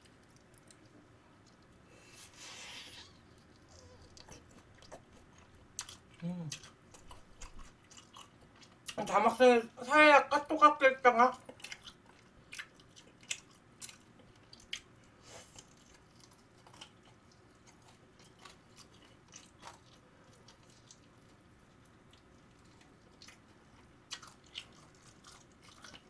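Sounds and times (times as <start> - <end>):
chewing fried chicken: 0.0 - 9.4, 10.2 - 26.0.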